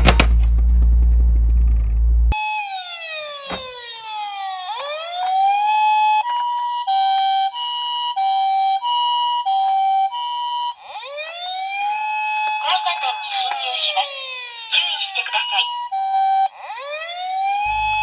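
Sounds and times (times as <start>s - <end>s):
emergency vehicle siren: 2.3s - 18.0s.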